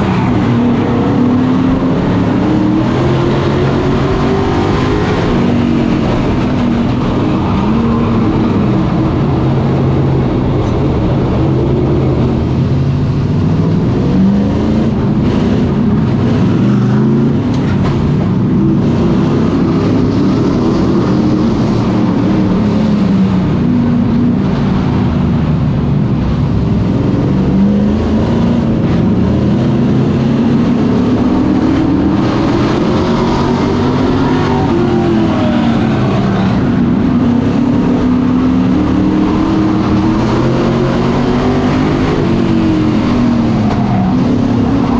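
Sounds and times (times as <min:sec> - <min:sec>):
race truck engines at full throttle: 0:00.0 - 0:44.9.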